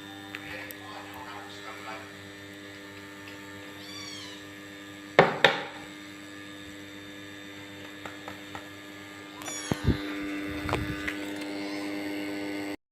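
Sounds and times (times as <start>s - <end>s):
steady electrical hum: 0.0s - 12.8s.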